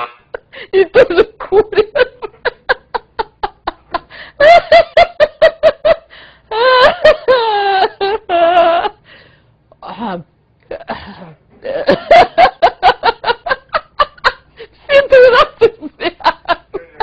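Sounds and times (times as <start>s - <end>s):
woman laughing: 0.0s - 9.0s, 11.6s - 17.0s.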